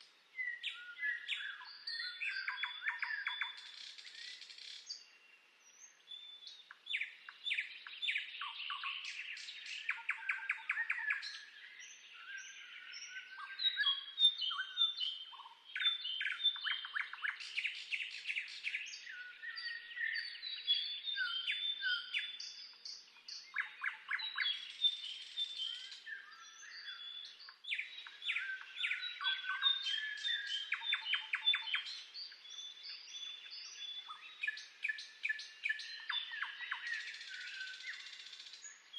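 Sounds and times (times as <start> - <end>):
songbirds chorus: 0.0 - 38.9.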